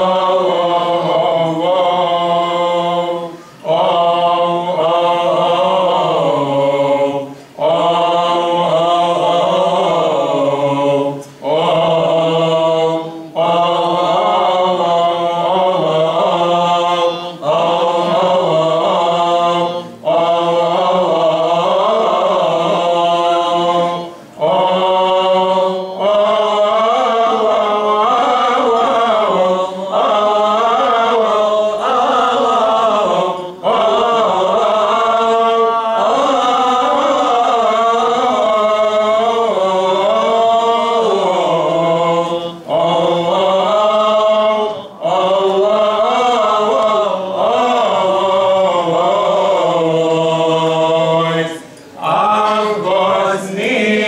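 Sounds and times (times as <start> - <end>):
liturgical chant: 0.0 - 54.0.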